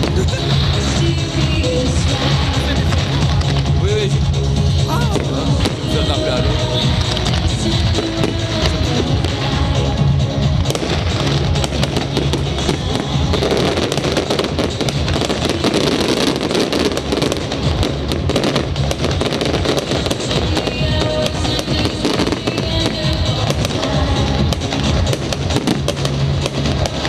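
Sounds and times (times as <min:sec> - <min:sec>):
fireworks banging and crackling: 0:00.0 - 0:27.0
loud music with bass: 0:00.0 - 0:27.0.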